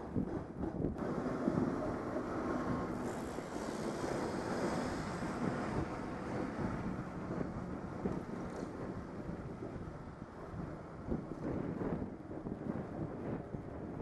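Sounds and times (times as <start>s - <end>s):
street traffic noise: 0.0s - 13.8s
wind noise on microphone: 0.0s - 14.0s.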